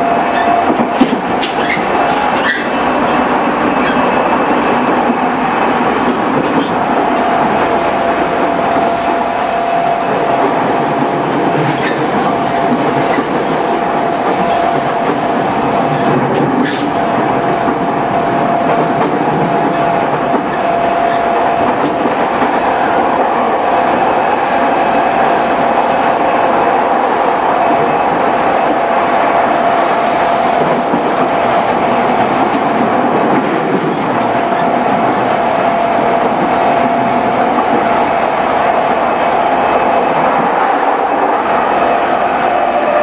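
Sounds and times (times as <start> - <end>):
train rolling noise: 0.0 - 43.0.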